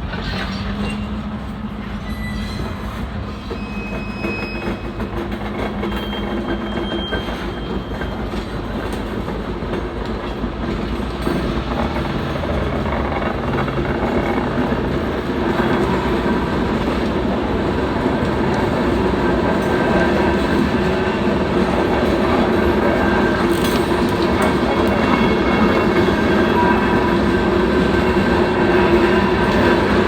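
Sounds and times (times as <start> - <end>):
freight train rolling on rails: 0.0 - 30.0.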